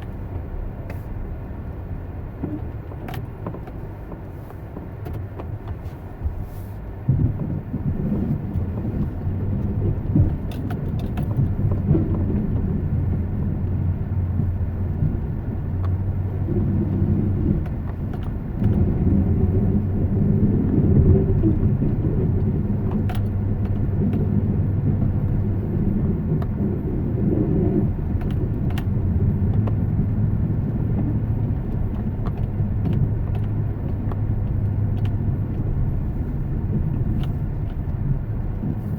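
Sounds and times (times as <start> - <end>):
engine hum and rumble: 0.0 - 38.9.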